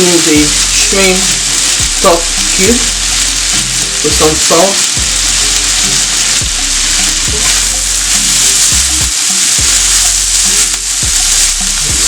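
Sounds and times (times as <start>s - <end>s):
background music with low beat: 0.0s - 12.0s
vegetables sizzling in a pan: 0.0s - 12.0s.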